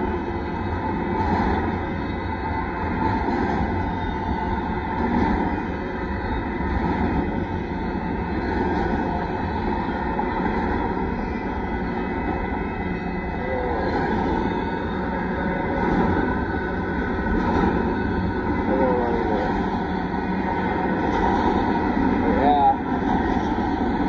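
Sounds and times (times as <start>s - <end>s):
freight train cars rolling on rails: 0.0s - 24.0s.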